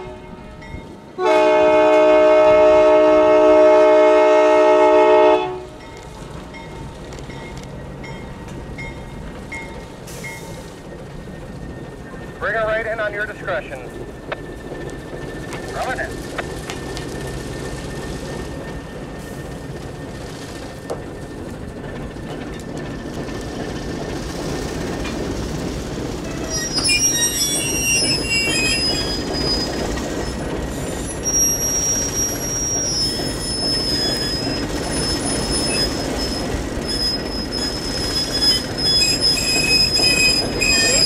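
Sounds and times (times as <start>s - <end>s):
low rumble of moving train: 0.0s - 41.0s
train wheels squealing on rails: 5.8s - 41.0s.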